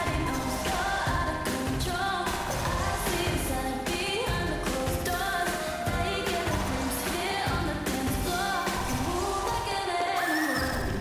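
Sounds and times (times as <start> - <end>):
steady pop beat: 0.0 - 10.2
female vocals singing: 0.0 - 11.0.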